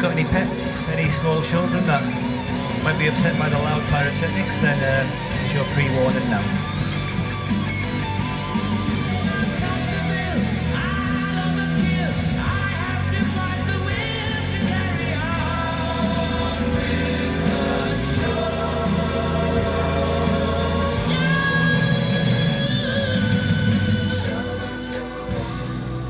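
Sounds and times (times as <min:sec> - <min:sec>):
music with singing: 0:00.0 - 0:26.0.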